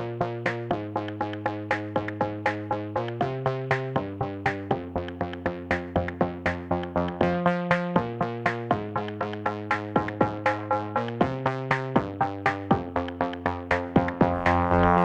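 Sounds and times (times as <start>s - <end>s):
electronic synthesizer music: 0.0s - 15.0s.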